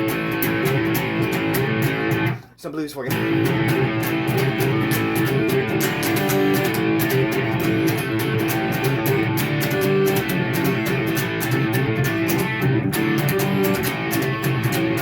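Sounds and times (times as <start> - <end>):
electric guitar blues: 0.0 - 2.4, 3.1 - 15.0.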